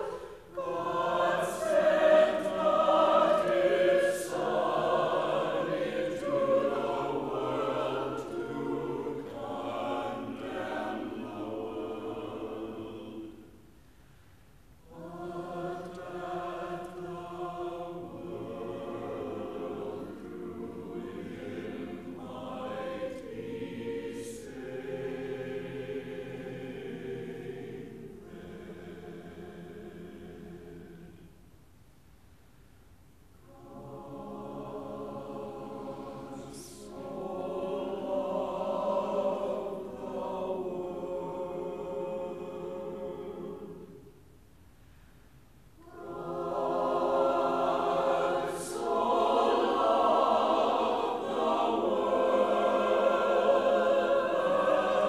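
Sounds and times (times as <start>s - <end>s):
church choir singing: 0.0s - 13.7s, 14.8s - 31.4s, 33.4s - 44.4s, 45.8s - 55.0s.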